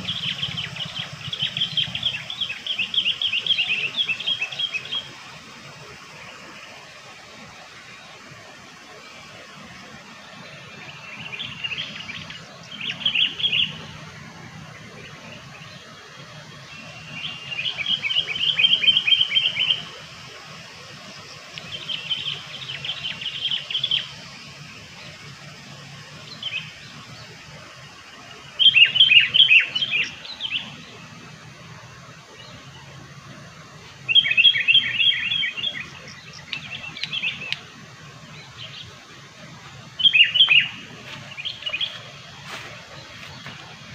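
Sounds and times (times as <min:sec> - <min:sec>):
bulbul song: 0:00.0 - 0:08.3, 0:09.0 - 0:43.9.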